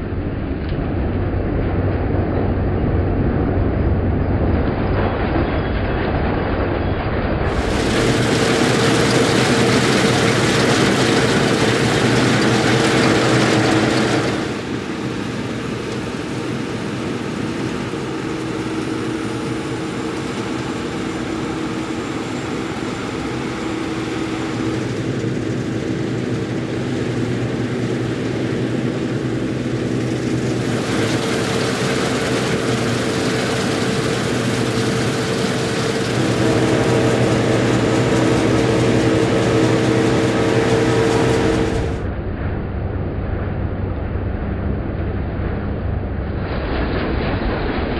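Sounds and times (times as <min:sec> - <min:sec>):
combine harvester running: 0:01.0 - 0:42.3.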